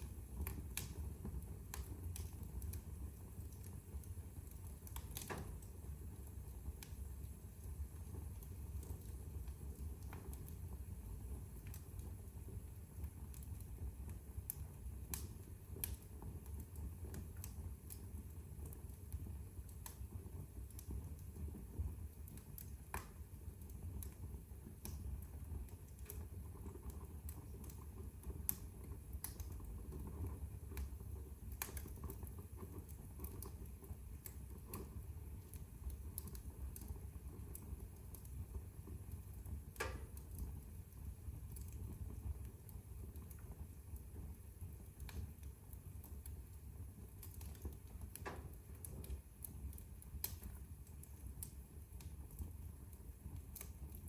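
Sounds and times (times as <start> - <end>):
fire burning in fireplace: 0.0 - 54.0
fire crackles and pops: 0.0 - 54.0.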